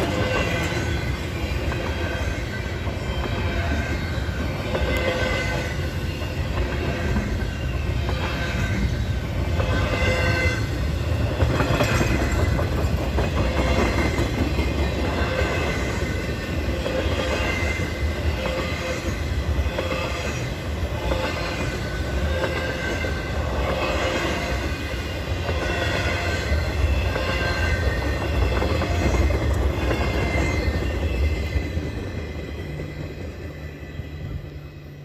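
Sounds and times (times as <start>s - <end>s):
freight train rumble: 0.0s - 35.0s
train wheel squeal: 0.0s - 35.0s.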